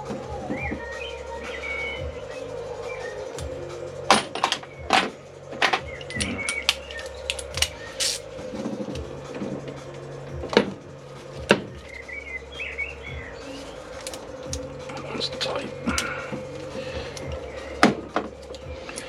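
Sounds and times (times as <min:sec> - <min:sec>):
birds chirping: 0:00.0 - 0:08.9, 0:10.9 - 0:19.0
steady hum: 0:00.0 - 0:19.0.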